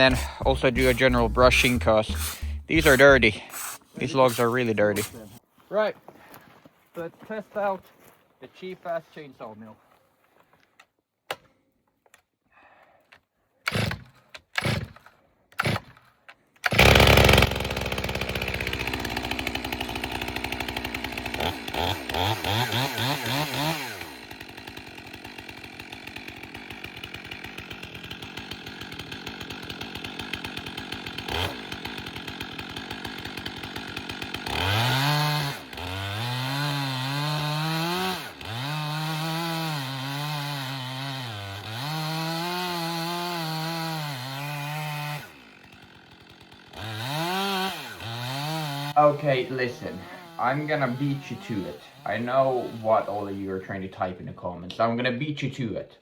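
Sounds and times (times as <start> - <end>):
chainsaw starting and revving: 0.0 - 5.4, 13.7 - 16.0, 16.6 - 53.9.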